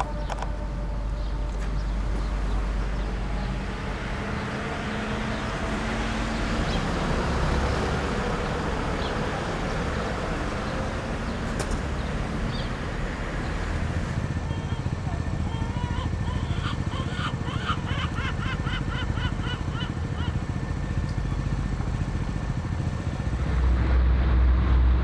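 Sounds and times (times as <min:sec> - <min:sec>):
engines and traffic rumble: 0:00.0 - 0:25.0
low hum: 0:00.0 - 0:25.0.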